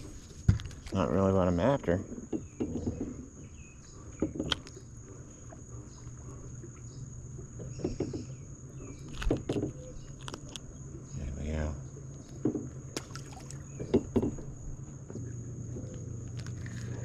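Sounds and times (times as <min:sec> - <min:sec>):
distant boat motor hum: 0:00.0 - 0:17.0
high insect drone: 0:00.0 - 0:17.0.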